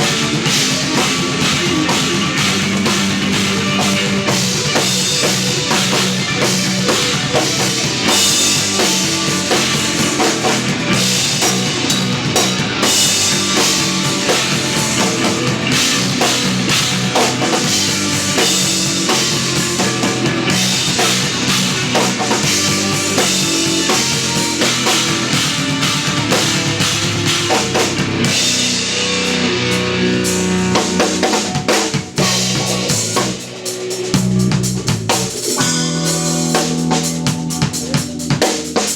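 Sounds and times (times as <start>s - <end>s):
live instrumental rock band: 0.0s - 38.9s.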